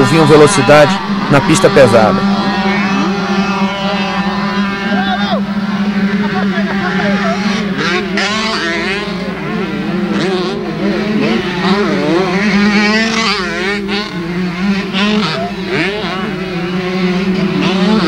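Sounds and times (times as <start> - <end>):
motocross bikes revving: 0.0 - 18.0
steady low hum: 0.0 - 18.0.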